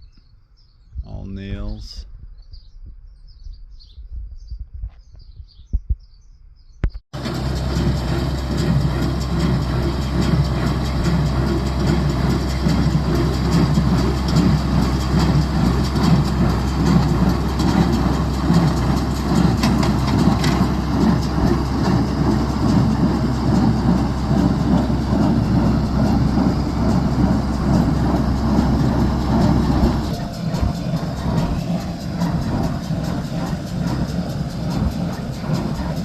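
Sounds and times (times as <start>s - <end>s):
bale conveyor rattling: 7.2s - 36.0s.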